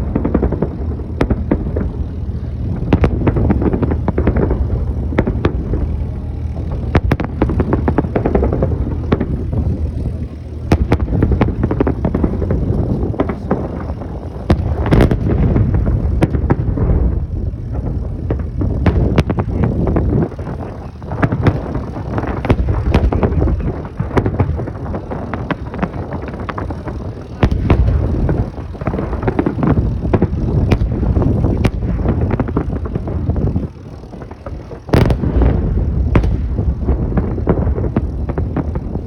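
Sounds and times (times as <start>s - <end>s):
fireworks bangs and crackles: 0.0s - 39.0s
steady low rumble: 0.0s - 39.0s.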